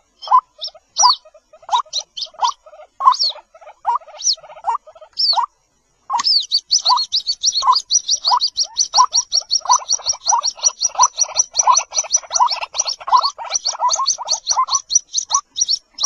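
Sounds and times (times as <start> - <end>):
chicks cheeping: 0.0 - 16.0
chicks high falling squeaks: 0.2 - 5.5, 6.1 - 16.0.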